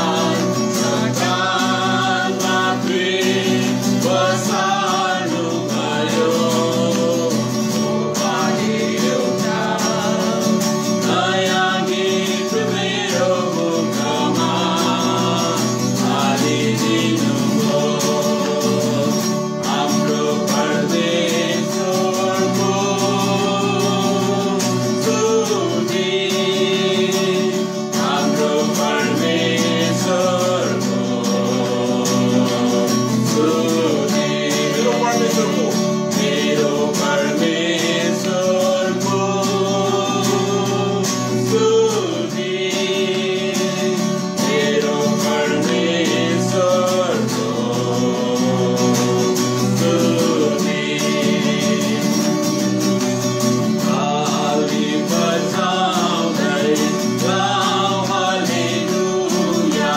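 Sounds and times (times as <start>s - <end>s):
acoustic guitar strumming: 0.0s - 59.9s
man singing: 0.0s - 59.9s.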